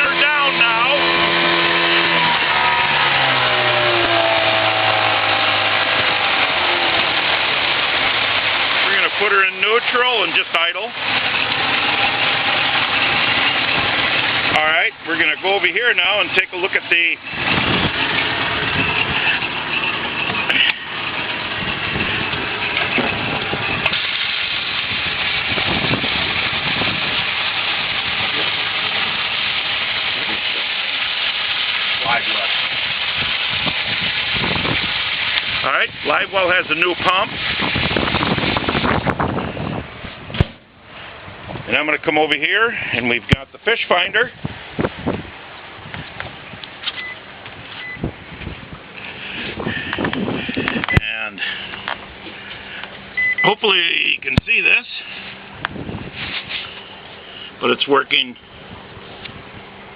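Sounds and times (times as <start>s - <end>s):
outboard motor throttling back: 0.0s - 59.9s.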